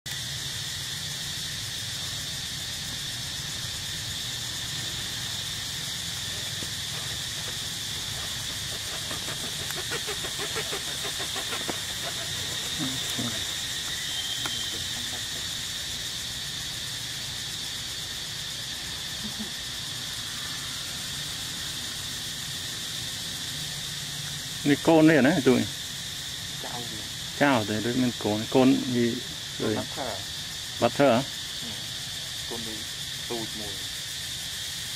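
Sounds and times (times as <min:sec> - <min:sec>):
insect chorus: 0:00.0 - 0:34.9.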